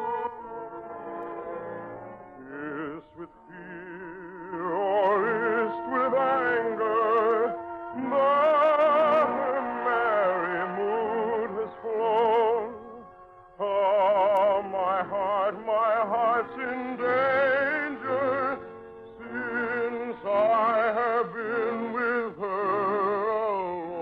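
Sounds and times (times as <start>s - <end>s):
operatic singing: 2.4s - 13.0s, 13.6s - 24.0s.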